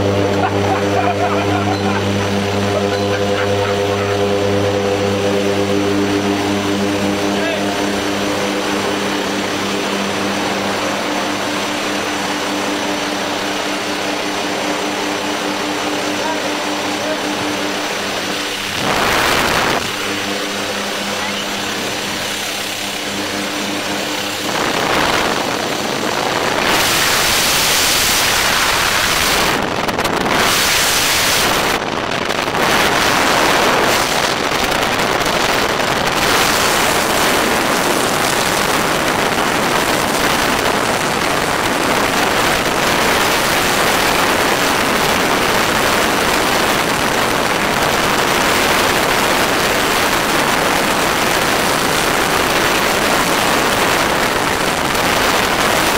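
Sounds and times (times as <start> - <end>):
airplane engine drone: 0.0 - 55.9
wind rushing over microphone: 0.0 - 55.9.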